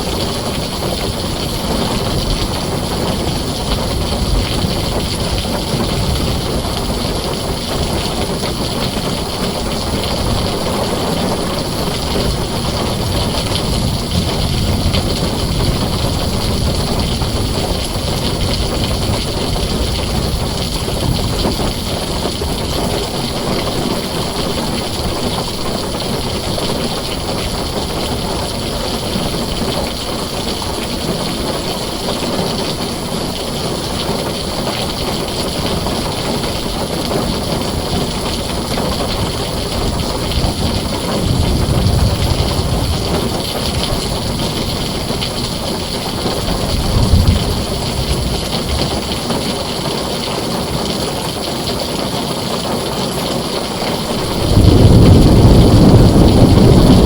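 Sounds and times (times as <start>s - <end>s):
heavy rain on a tin roof: 0.0s - 57.0s.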